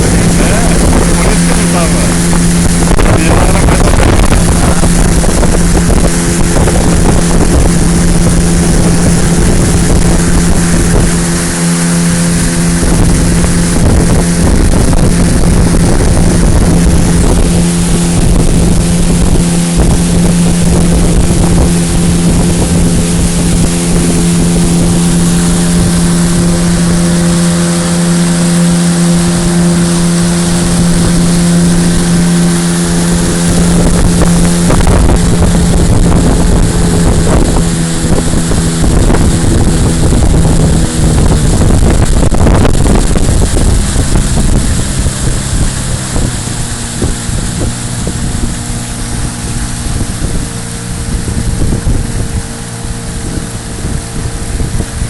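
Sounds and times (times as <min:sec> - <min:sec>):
motorboat engine running: 0:00.0 - 0:55.0
wind noise on microphone: 0:00.0 - 0:55.0.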